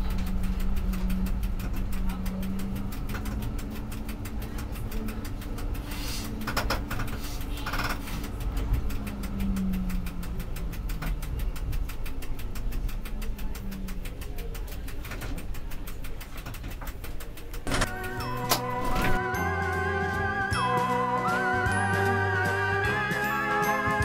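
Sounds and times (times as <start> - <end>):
tram electric drive hum: 0.0 - 24.0
wheels rumbling on rail: 0.0 - 24.0.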